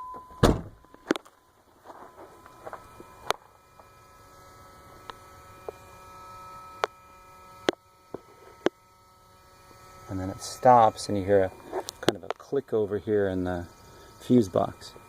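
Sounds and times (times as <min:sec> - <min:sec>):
electric fuel pump buzzing: 0:00.0 - 0:15.0.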